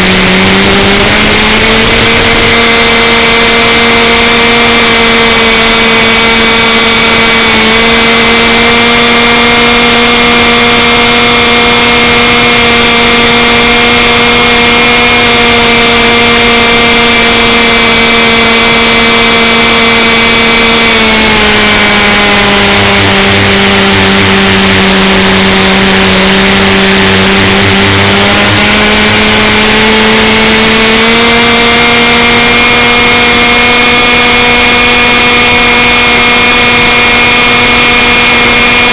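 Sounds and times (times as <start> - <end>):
motor engine running at high revs: 0.0 - 38.9.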